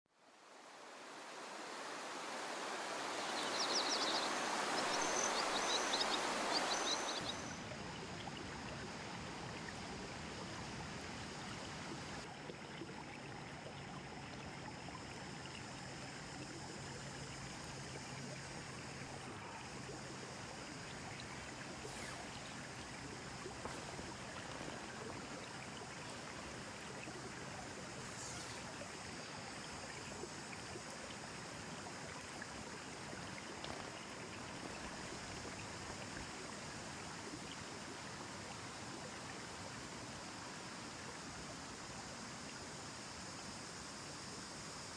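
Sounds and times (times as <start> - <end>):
river water flowing: 0.1 - 44.9.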